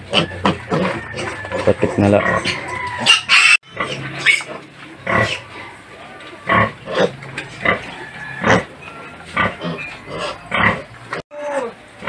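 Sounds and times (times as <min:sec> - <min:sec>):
piglet squealing: 0:00.0 - 0:04.6, 0:06.4 - 0:11.8.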